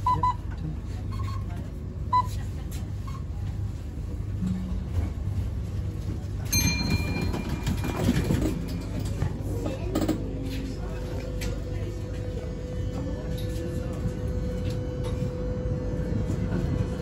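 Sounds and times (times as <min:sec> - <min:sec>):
tram motors and wheels humming: 0:00.0 - 0:17.0
tram rattle: 0:00.0 - 0:17.0.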